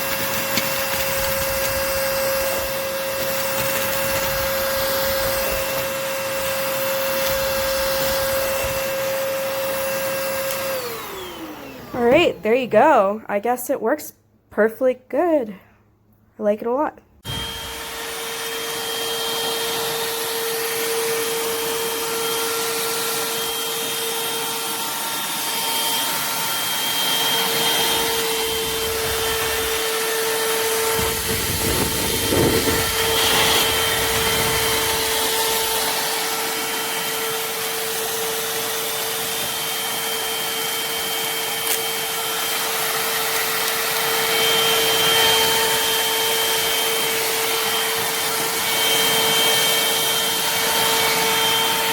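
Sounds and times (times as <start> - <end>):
handheld vacuum cleaner running: 0.0 - 12.8, 17.2 - 51.9.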